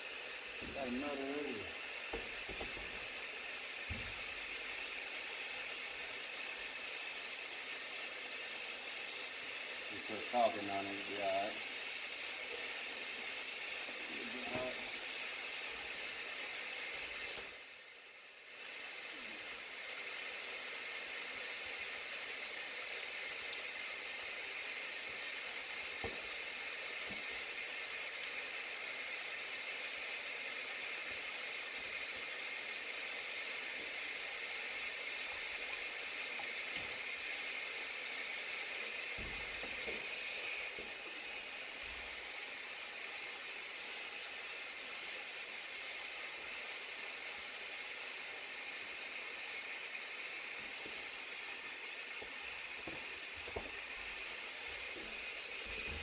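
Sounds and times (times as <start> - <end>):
hvac equipment hissing: 0.0 - 56.0.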